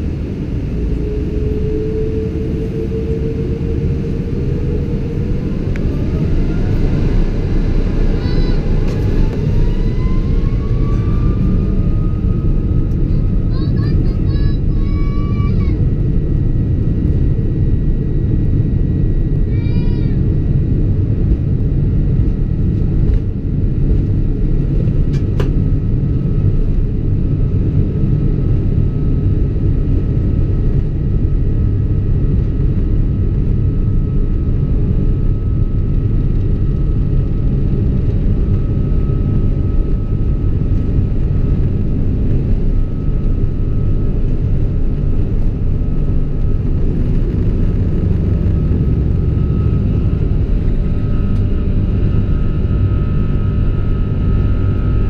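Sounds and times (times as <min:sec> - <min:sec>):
faint steady whine: 0:00.0 - 0:19.6, 0:20.2 - 0:55.0
aircraft cabin engine rumble: 0:00.0 - 0:55.0.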